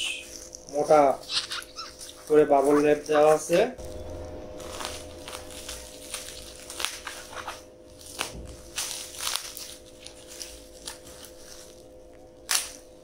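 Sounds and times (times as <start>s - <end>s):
bubble wrap crinkling and crackling: 0.0s - 13.0s
knife slitting bubble wrap: 0.0s - 13.0s.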